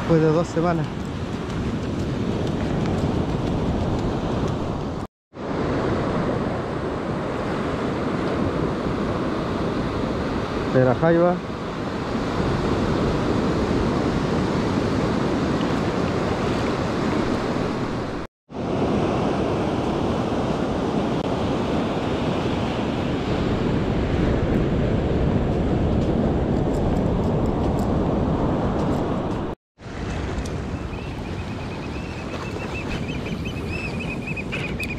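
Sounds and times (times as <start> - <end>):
ocean waves washing on beach: 0.0 - 34.9
wind buffeting microphone: 0.1 - 10.7, 11.5 - 34.9.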